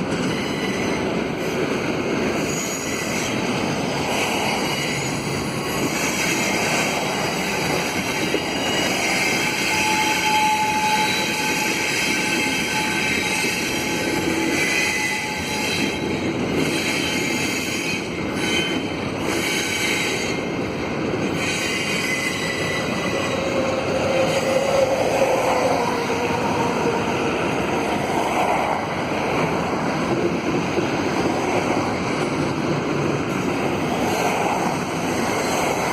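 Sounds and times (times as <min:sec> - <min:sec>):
freight train rumble: 0:00.0 - 0:35.9
train wheels squealing on rails: 0:00.0 - 0:35.9.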